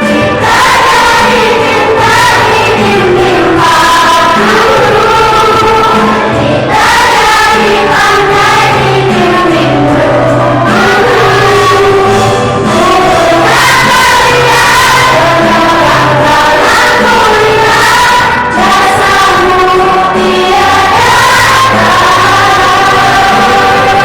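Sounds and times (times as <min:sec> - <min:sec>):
choir singing in harmony: 0:00.0 - 0:24.0.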